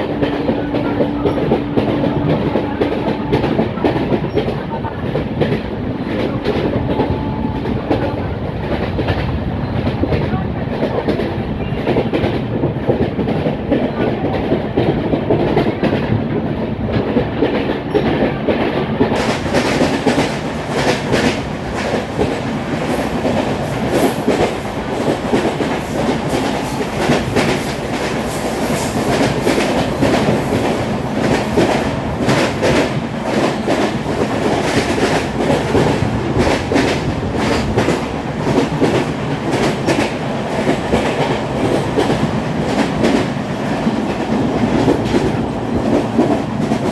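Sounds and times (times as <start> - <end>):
train rail rumble: 0.0 - 46.9.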